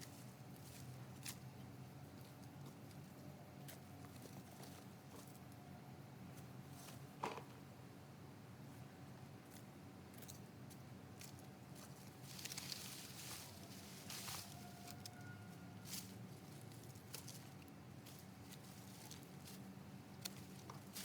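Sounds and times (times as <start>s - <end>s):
soil and plants rustling: 0.0s - 5.5s, 8.7s - 21.0s.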